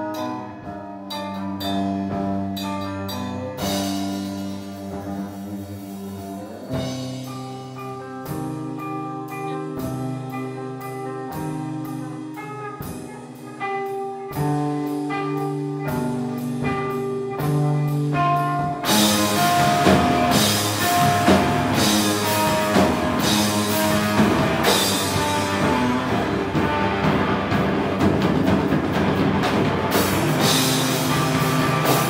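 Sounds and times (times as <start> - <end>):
electric guitar chords ringing: 0.0 - 32.0
rock band playing loud: 0.0 - 32.0.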